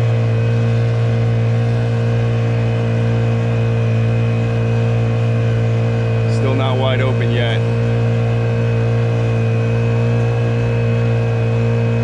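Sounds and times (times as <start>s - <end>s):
outboard engine running steadily: 0.0s - 12.0s.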